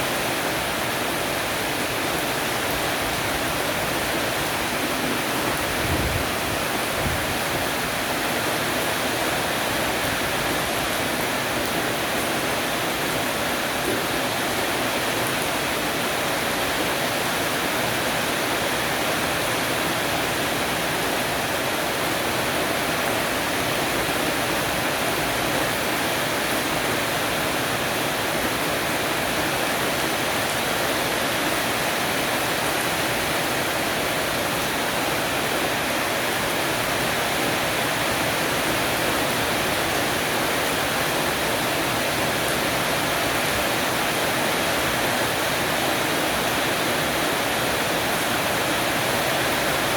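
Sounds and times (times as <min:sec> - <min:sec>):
heavy rain on a roof: 0:00.0 - 0:49.9.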